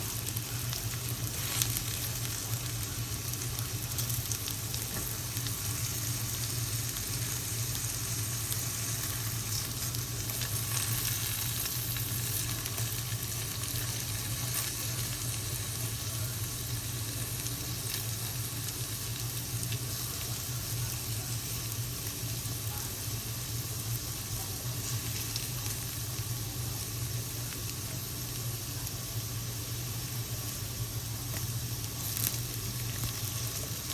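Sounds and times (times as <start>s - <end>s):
vegetables sizzling in hot oil: 0.0s - 33.9s.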